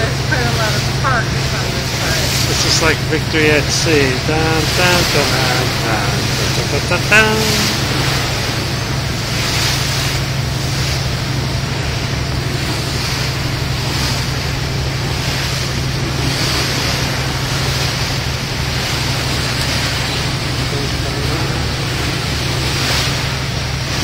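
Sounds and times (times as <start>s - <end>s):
low engine drone: 0.0s - 24.0s
water rushing past hull: 0.0s - 24.0s.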